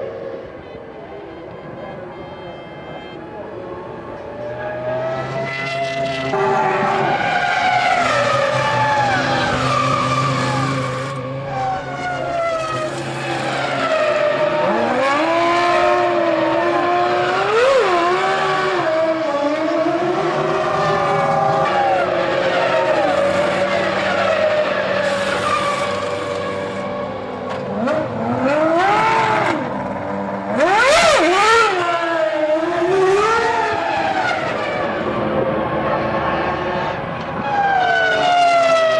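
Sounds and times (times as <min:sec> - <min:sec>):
racing cars passing by: 0:00.0 - 0:38.9
racing car engines at high revs: 0:03.4 - 0:38.9.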